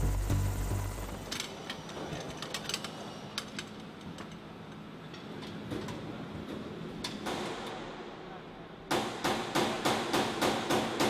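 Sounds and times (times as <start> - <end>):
hangar room noise: 0.0 - 11.0.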